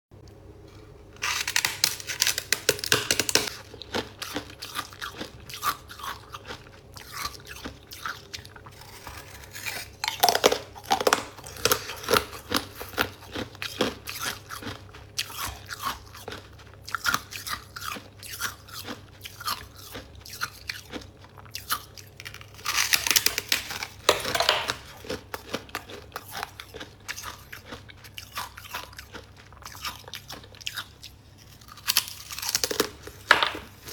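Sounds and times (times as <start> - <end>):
crunching and chewing frost: 0.2 - 33.9.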